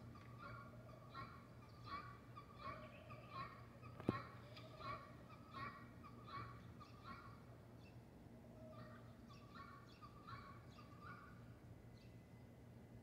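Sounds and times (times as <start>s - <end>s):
faint bird calls: 0.0s - 12.2s.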